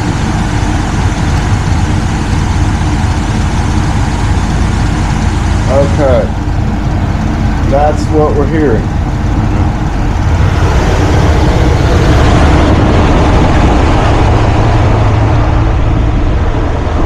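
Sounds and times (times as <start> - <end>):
blower rumbling and shaking: 0.0 - 17.0.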